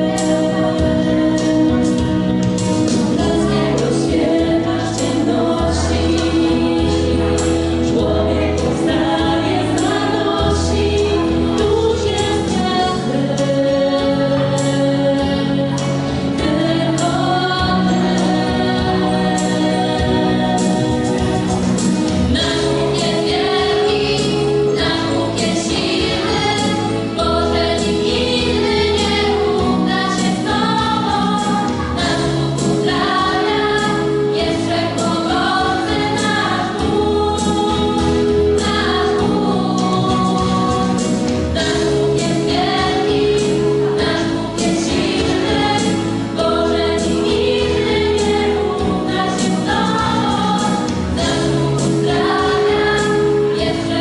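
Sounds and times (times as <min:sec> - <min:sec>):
girls choir singing: 0:00.0 - 0:54.0
instrumental accompaniment with beat: 0:00.0 - 0:54.0.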